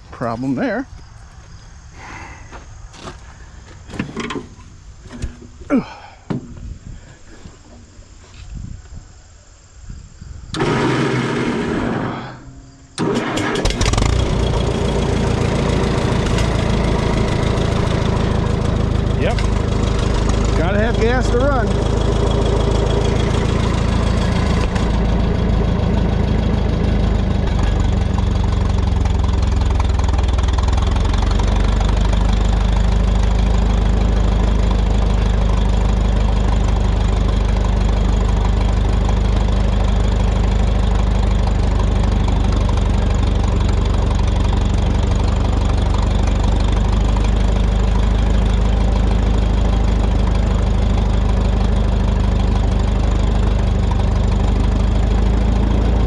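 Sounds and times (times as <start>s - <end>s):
tractor engine idling: 0.0s - 8.2s, 10.5s - 56.0s.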